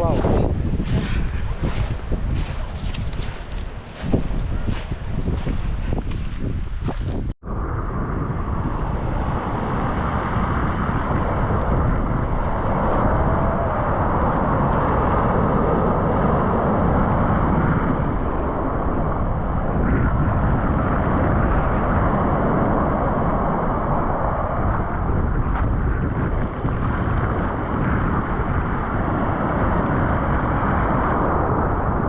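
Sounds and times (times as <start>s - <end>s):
sea surf at shore: 0.0s - 32.0s
wind on microphone: 0.0s - 32.0s.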